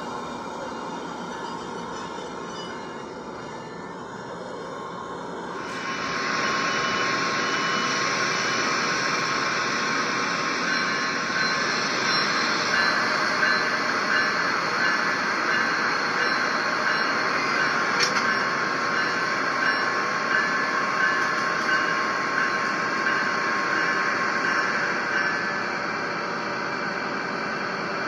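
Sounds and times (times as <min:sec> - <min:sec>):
faint high steady tones: 0:00.0 - 0:27.2
train rumble and hiss: 0:00.0 - 0:28.0.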